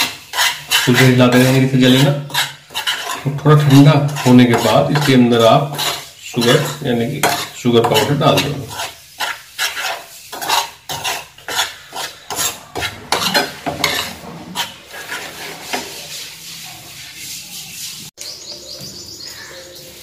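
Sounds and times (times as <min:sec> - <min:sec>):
spoon scraping a frying pan: 0:00.0 - 0:18.1.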